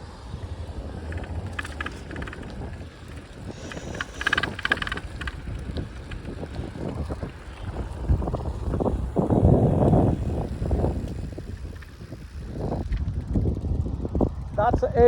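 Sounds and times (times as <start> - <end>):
wind rumbling on microphone: 0.0 - 15.0
rapid clicking rattling: 0.6 - 15.0.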